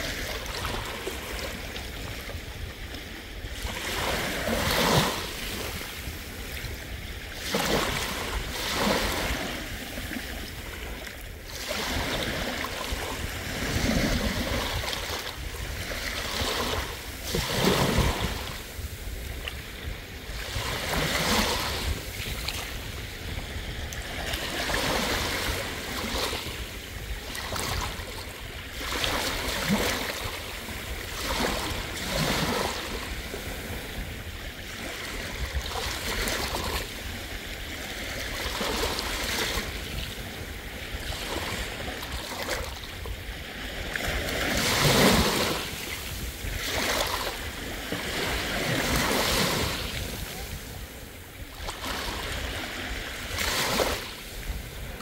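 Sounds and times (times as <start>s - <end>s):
sea waves washing onto beach: 0.0s - 55.0s.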